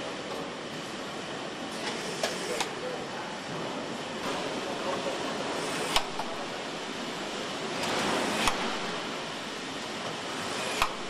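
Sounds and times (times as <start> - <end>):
assembly hall noise: 0.0 - 11.0.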